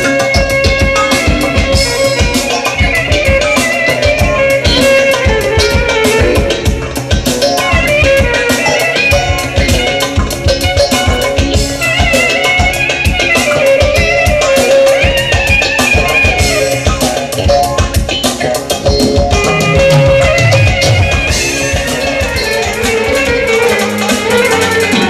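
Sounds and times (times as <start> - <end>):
clarinet melody: 0.0 - 18.0, 18.9 - 25.0
drum kit steady beat: 0.0 - 25.0
electric guitar: 0.0 - 25.0.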